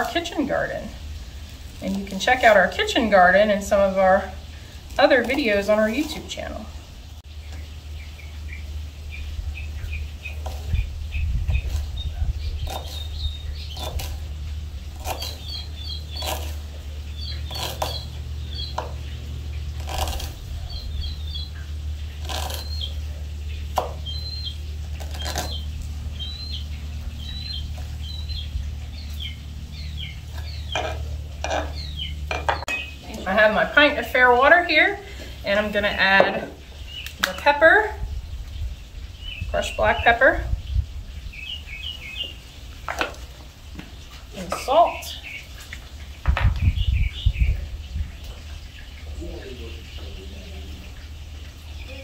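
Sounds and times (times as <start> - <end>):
small birds chirping: 0.0 - 52.0
steady low hum: 0.0 - 52.0.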